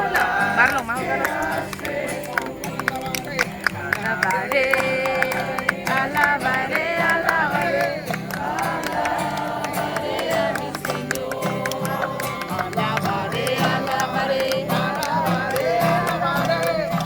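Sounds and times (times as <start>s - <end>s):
group singing worship song: 0.0s - 17.0s
guitar accompaniment: 0.0s - 17.0s
sharp rhythmic clicks: 0.0s - 17.0s.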